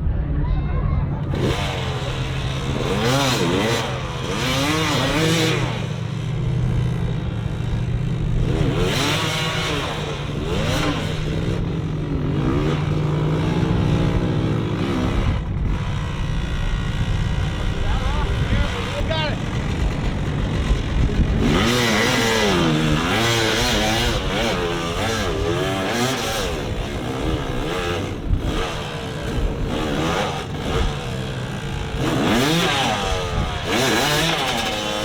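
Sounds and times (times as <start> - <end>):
off-road engine revving: 1.0 - 35.0.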